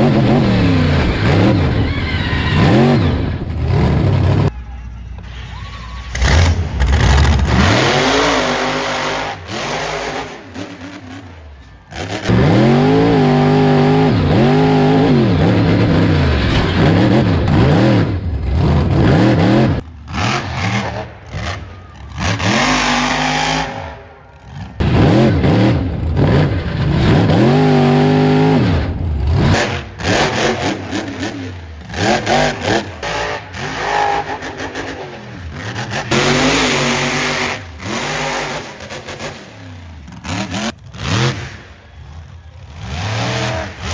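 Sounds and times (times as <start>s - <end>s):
truck engine revving: 0.0s - 4.5s, 6.0s - 43.9s.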